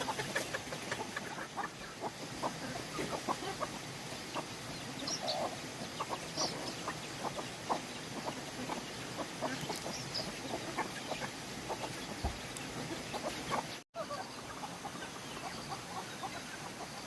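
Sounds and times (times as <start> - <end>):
poultry clucking and peeping: 0.0 - 17.0
steady background noise: 0.0 - 17.0.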